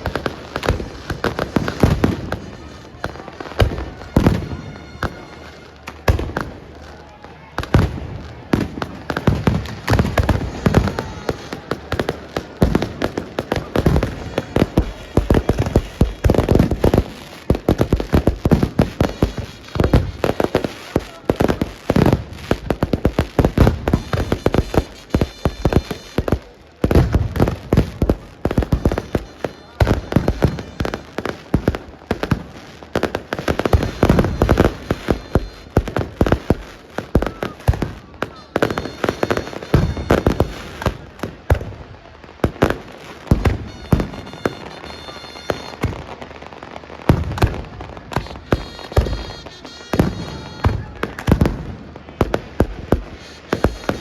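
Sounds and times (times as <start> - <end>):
heavy firework booms: 0.0 - 5.3, 6.0 - 6.7, 7.6 - 54.0
fireworks bangs and crackles: 0.0 - 54.0.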